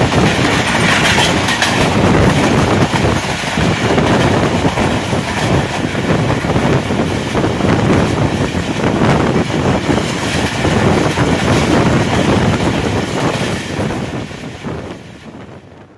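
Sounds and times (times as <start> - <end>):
train wheels rumbling on rails: 0.0 - 15.9
wind buffeting microphone: 0.0 - 15.9.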